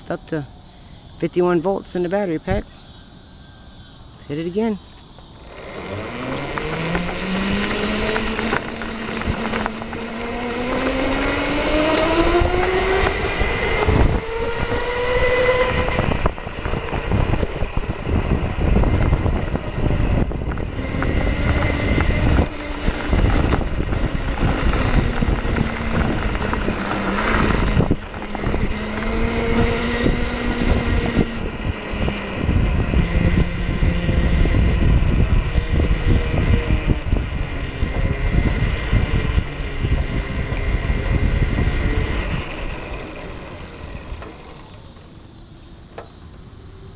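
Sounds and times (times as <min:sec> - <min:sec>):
rolling and wind noise: 0:00.0 - 0:46.9
electric motor whine: 0:02.0 - 0:46.9.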